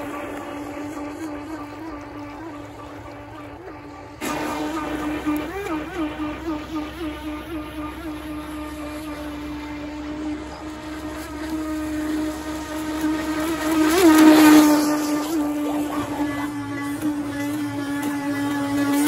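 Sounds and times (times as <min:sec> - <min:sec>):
electric motor whining: 0:00.0 - 0:19.0
water spray splashing: 0:00.0 - 0:19.0.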